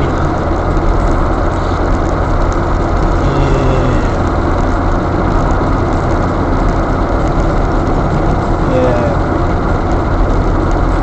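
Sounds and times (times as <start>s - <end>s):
car interior engine and road noise: 0.0s - 11.0s.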